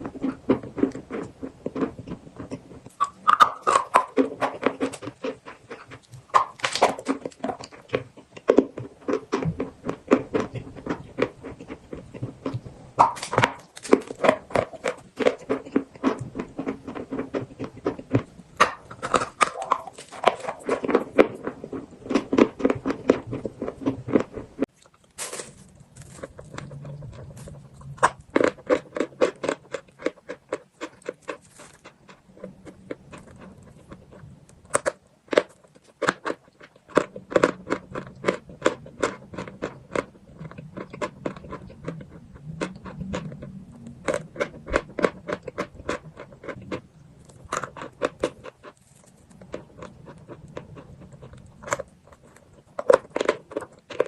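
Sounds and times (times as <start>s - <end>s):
chewing chalk crunches: 0.0s - 54.0s.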